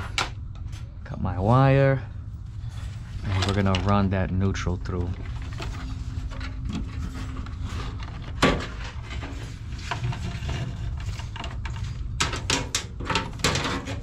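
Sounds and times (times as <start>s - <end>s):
steady low hum: 0.0s - 14.0s
wire rustling and scraping: 2.3s - 14.0s.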